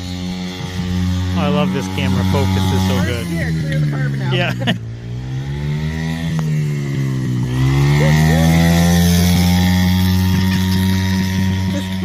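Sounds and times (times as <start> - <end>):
small engine buzzing at high revs: 0.0 - 12.0.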